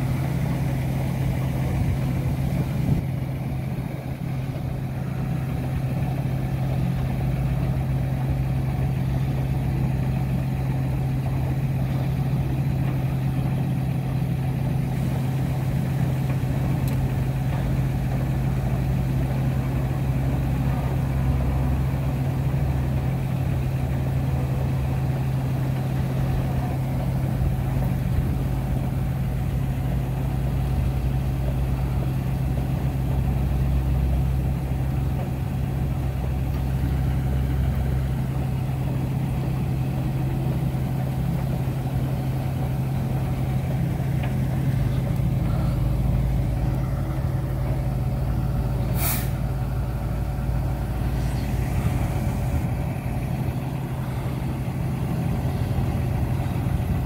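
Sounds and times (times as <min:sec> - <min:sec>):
deep rumble: 0:00.0 - 0:24.8, 0:25.7 - 0:57.0
heavy machinery drone: 0:00.0 - 0:57.0.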